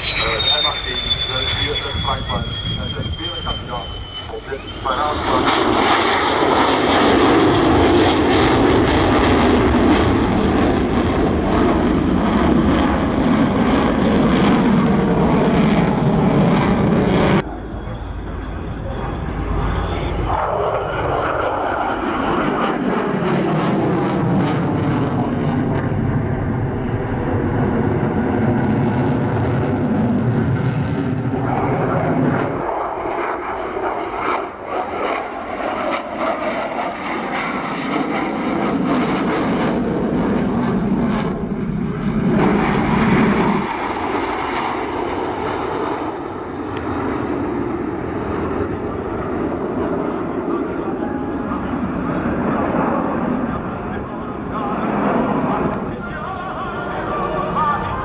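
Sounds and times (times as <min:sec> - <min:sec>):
airplane flying past: 0:00.0 - 0:58.0.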